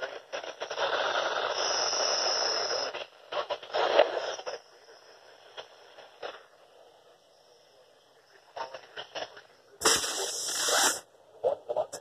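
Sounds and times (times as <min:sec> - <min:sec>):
static crackling bursts: 0:00.0 - 0:07.0, 0:08.5 - 0:12.0
thin high whine: 0:00.0 - 0:11.1
radio static hiss: 0:00.0 - 0:12.0.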